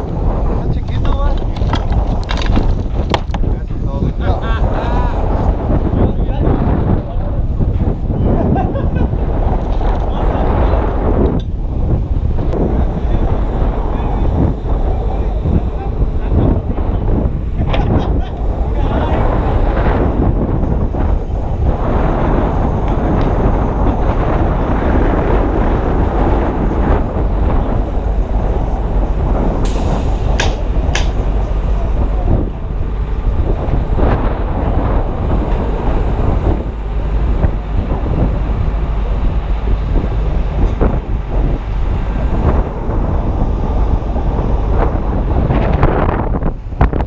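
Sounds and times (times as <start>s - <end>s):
strong wind buffeting microphone: 0.0s - 47.0s.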